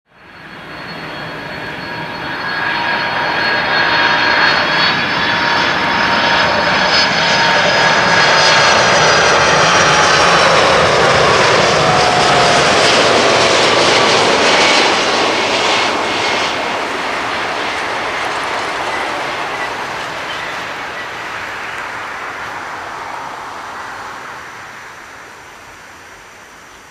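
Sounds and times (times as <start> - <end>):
jet engines rumbling and whining: 0.1 - 26.9.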